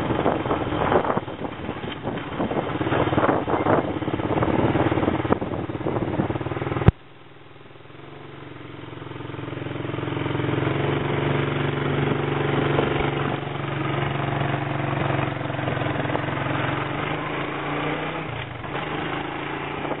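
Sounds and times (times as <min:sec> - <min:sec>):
four-stroke engine running: 0:00.0 - 0:20.0.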